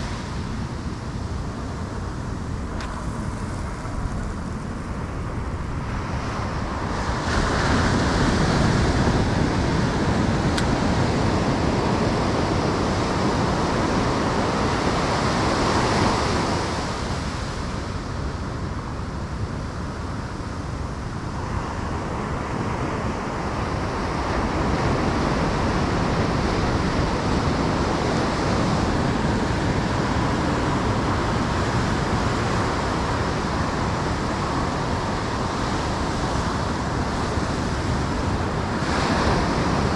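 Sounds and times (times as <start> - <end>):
ocean surf breaking: 0.0 - 39.9
wind on microphone: 0.0 - 39.9.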